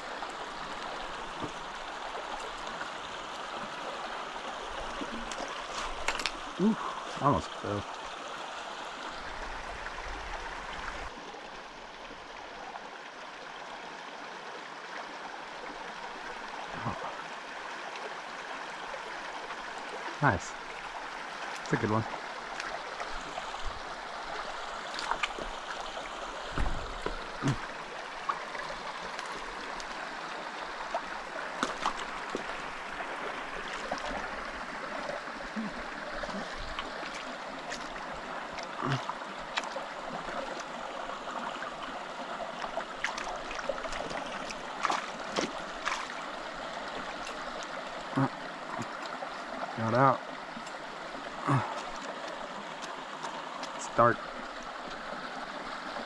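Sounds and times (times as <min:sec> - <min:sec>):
creek running over rocks: 0:00.0 - 0:56.0.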